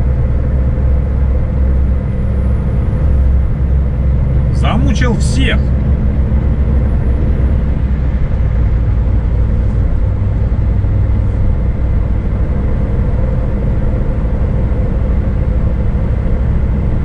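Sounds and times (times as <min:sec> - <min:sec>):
road and tyre noise: 0:00.0 - 0:17.0
truck diesel engine drone: 0:00.0 - 0:17.0.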